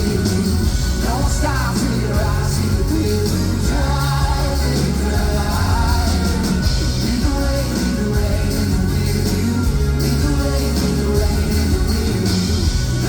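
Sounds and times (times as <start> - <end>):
live pop-rock band music: 0.0 - 13.0.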